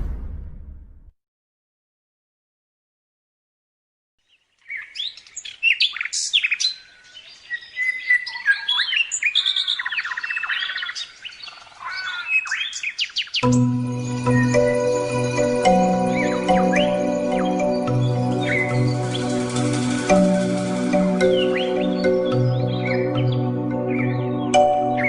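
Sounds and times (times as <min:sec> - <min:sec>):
songbird singing: 0:04.2 - 0:25.0.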